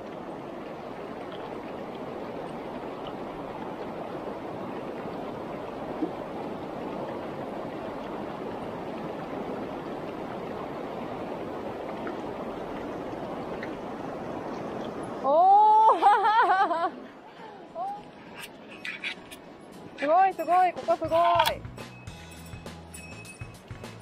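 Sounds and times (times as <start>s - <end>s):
river water rushing over stones: 0.0s - 15.9s, 17.0s - 21.6s.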